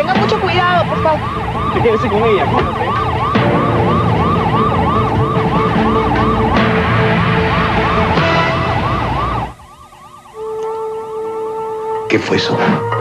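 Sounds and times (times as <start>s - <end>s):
low vehicle rumble: 0.0s - 10.5s
police sirens yelping: 0.0s - 13.0s.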